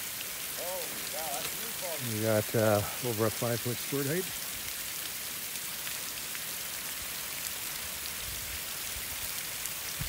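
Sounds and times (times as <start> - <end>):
water jets pattering on rock: 0.0 - 10.0.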